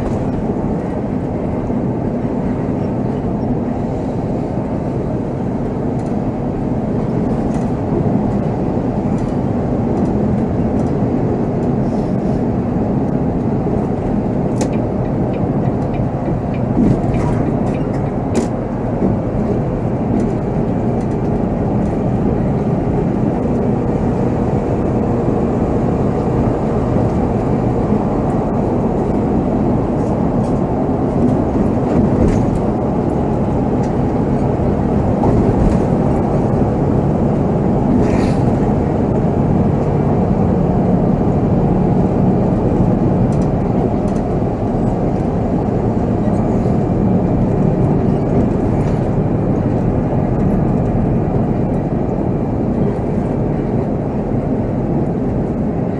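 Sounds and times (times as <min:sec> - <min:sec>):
diesel engine and road drone: 0:00.0 - 0:55.9.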